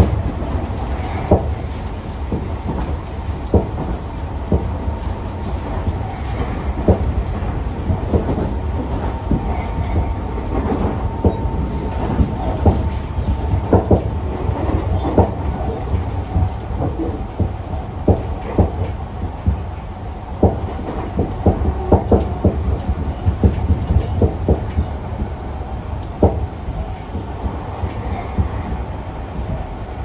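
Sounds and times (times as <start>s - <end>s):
wheels clicking over rail joints: 0.0s - 24.9s
train wheels rumbling on track: 0.0s - 30.0s.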